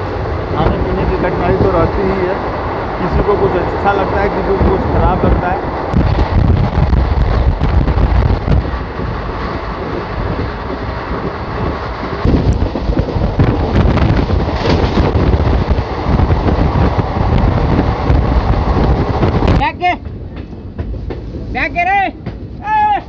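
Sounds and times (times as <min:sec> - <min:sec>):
train coaches rumbling on track: 0:00.0 - 0:23.0
wind buffeting microphone: 0:00.0 - 0:23.0.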